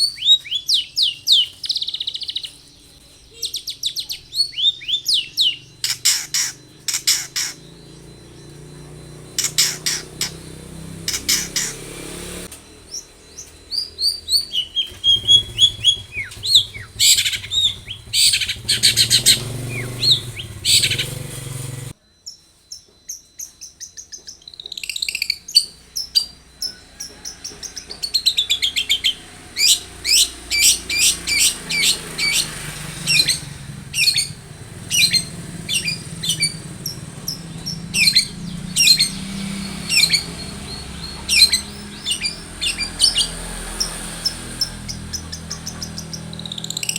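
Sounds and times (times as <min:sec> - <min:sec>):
bird singing harsh chattering notes: 0:00.0 - 0:46.9.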